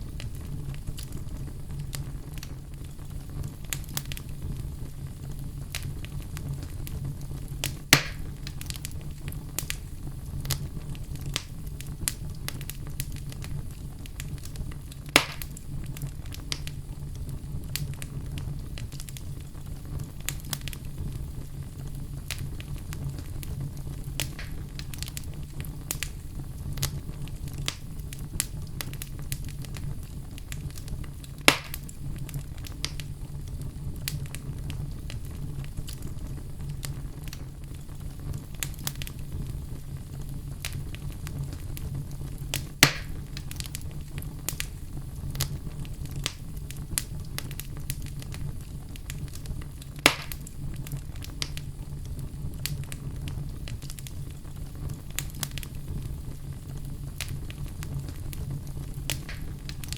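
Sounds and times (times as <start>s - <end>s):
fire popping: 0.0s - 59.9s
wood fire crackling: 0.0s - 59.9s.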